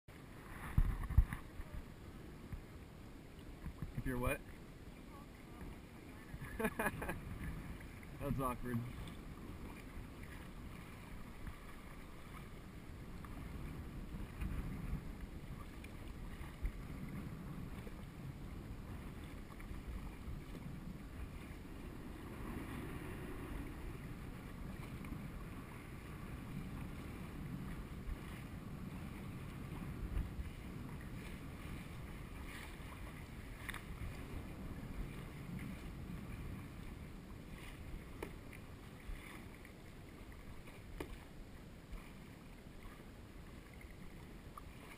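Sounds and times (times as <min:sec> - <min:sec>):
paddle splashing in water: 0:00.1 - 0:44.9
wind rumble on microphone: 0:00.2 - 0:44.9.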